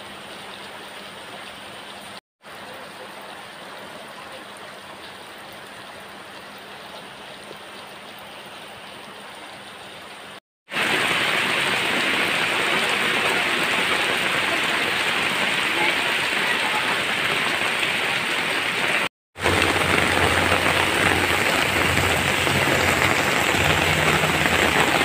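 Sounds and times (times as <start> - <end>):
rain on concrete roof: 0.0 - 25.0
rain on muddy ground: 0.0 - 25.0.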